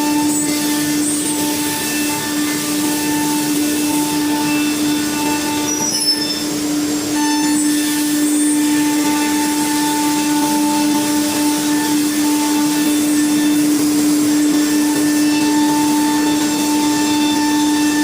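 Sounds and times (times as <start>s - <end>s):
router spindle whine: 0.0s - 18.0s.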